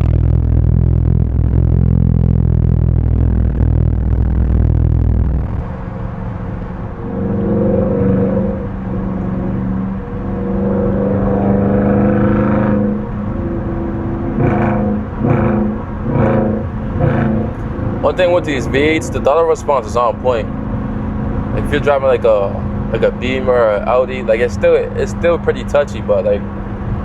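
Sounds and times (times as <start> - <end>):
car engine deep rumble: 0.0 - 27.0.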